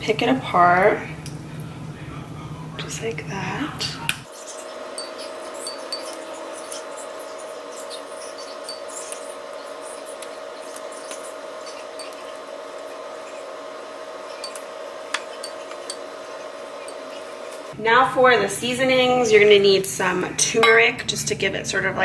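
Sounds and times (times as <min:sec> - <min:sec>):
steady hum with tones: 0:00.0 - 0:21.7.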